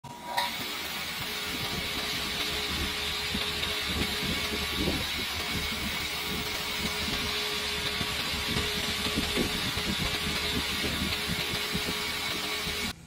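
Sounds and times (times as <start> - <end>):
water pump motor hum and whine: 0.1 - 13.0
rough pump rattle: 0.2 - 13.0.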